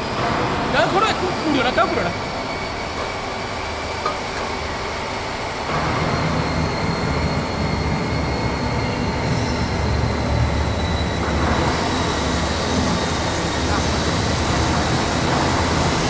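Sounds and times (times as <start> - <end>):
high machine whine: 0.0 - 16.0
low machine rumble: 0.0 - 16.0.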